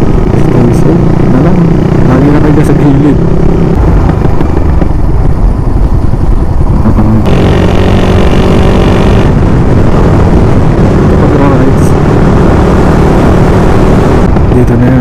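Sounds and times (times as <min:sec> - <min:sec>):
motorcycle engine running: 0:00.0 - 0:15.0
steady pitched engine tone: 0:00.0 - 0:15.0
wind rumble on microphone: 0:00.0 - 0:15.0.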